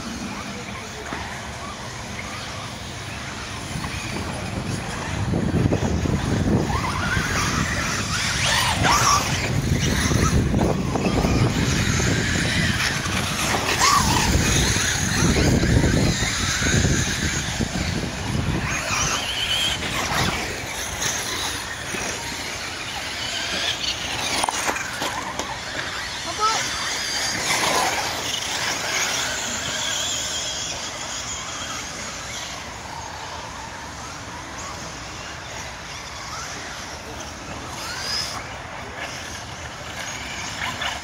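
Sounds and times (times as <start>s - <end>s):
rc car motors whining: 0.0s - 41.0s.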